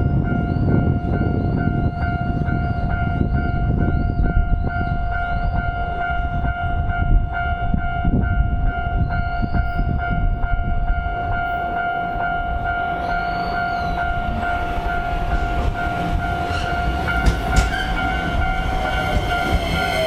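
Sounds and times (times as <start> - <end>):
level-crossing electronic bell: 0.0 - 20.0
train passing rumble: 0.0 - 20.0.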